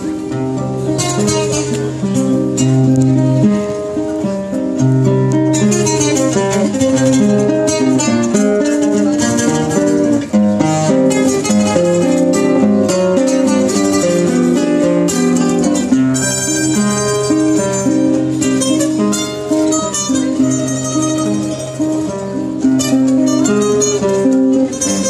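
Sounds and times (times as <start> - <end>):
acoustic guitars playing tango: 0.0 - 25.0.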